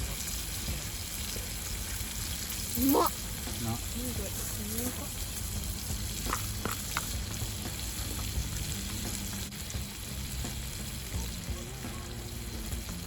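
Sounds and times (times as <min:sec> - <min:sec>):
food sizzling over fire: 0:00.0 - 0:13.0.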